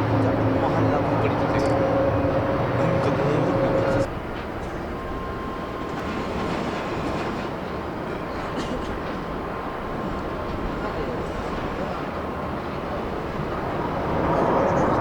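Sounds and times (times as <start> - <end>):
jet engine whine: 0.0 - 15.0
jet engines rumbling: 0.0 - 15.0.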